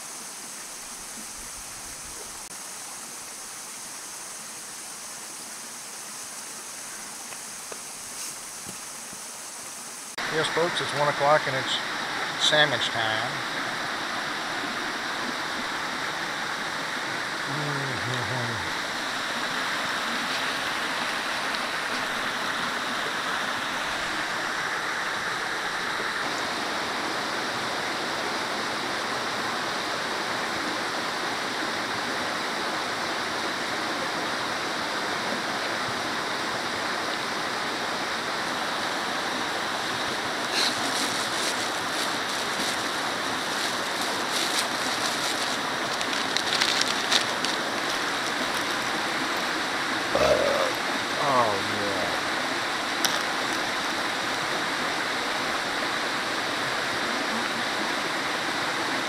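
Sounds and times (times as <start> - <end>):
creek water running over rocks: 0.0 - 59.0.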